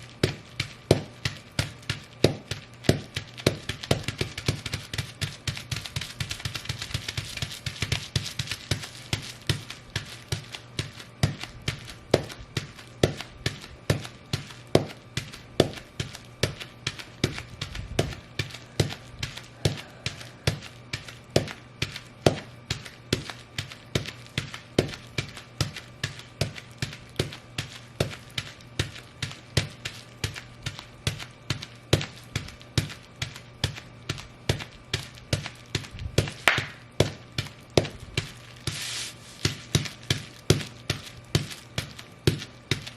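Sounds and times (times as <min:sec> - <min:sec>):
boots stomping on bubble wrap: 0:00.0 - 0:42.9
bubble wrap popping: 0:00.0 - 0:42.9.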